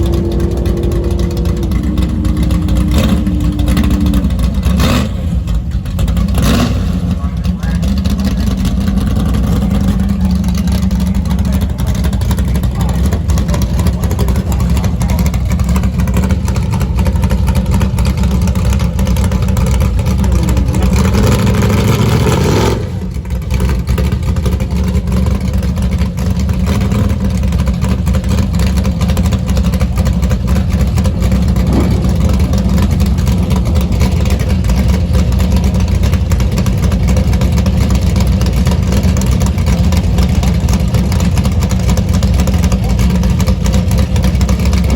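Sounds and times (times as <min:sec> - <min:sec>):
drag car engine revving: 0:00.0 - 0:44.9.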